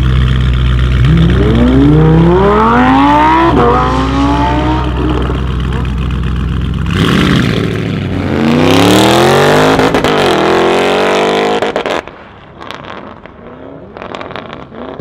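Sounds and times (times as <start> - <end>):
car engine accelerating at full throttle: 0.0 - 15.0.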